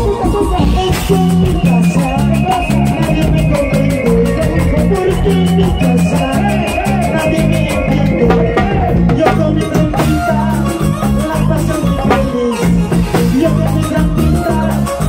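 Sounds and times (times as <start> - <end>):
live band music: 0.0 - 15.0
man singing: 0.0 - 15.0.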